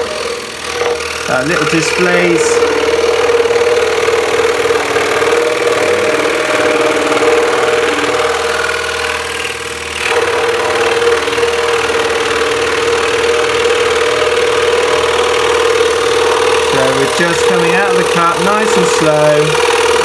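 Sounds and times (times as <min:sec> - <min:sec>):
scroll saw cutting wood: 0:00.0 - 0:20.0.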